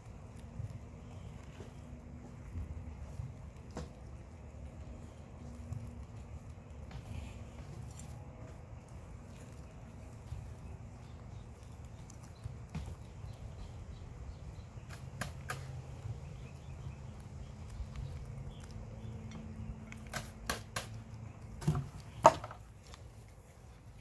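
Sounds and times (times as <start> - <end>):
guinea pigs munching greens: 0.0 - 24.0.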